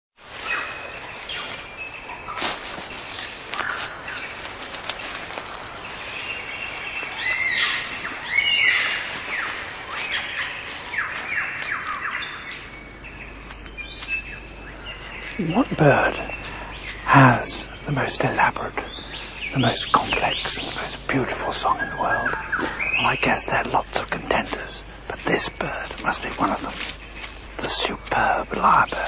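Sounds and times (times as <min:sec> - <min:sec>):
bird song: 0:00.3 - 0:29.0.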